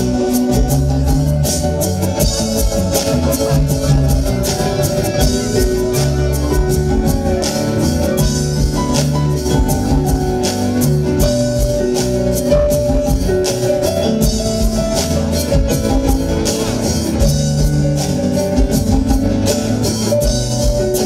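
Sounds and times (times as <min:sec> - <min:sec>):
bass line: 0:00.0 - 0:21.0
drum beat: 0:00.0 - 0:21.0
held melody notes: 0:00.0 - 0:21.0.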